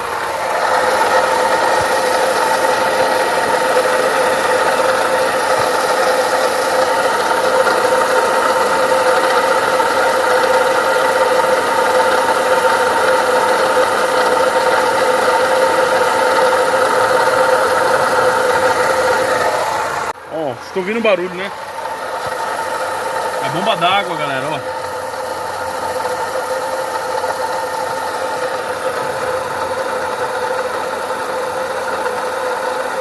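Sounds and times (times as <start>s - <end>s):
car engine idling: 0.0s - 33.0s
water pump whine: 0.0s - 33.0s.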